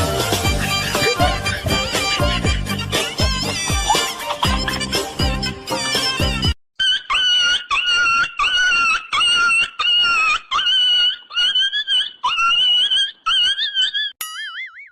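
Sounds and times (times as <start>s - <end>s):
comic high-pitched squeaks: 0.2s - 14.9s.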